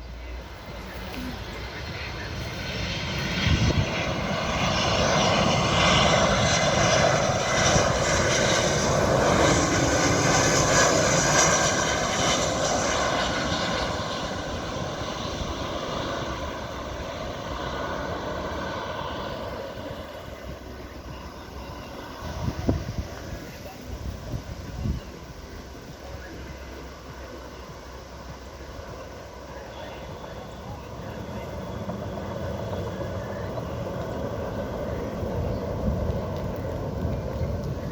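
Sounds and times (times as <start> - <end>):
jet airliner landing: 0.0 - 37.9.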